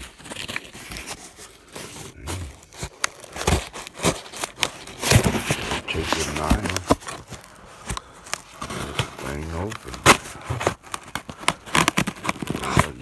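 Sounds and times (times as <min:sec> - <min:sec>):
cardboard box being cut and torn: 0:00.0 - 0:07.6, 0:08.3 - 0:13.0.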